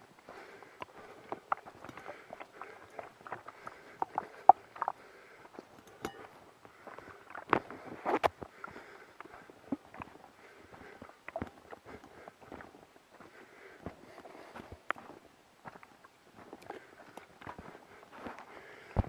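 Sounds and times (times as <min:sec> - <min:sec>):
footsteps on forest trail: 0:00.0 - 0:19.0.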